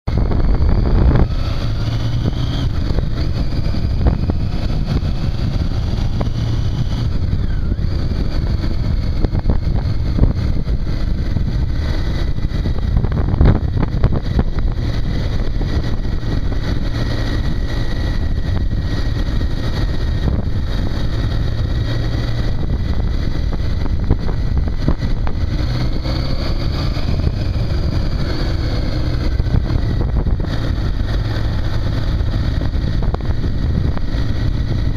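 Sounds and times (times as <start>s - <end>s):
motorcycle engine running: 0.0s - 34.9s
wind rumble on microphone: 0.0s - 34.9s.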